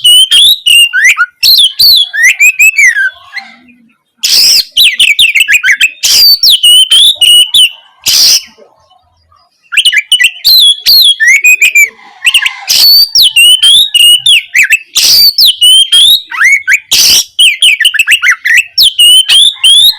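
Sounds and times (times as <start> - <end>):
bird singing whistled notes: 0.0 - 8.6, 9.3 - 19.9.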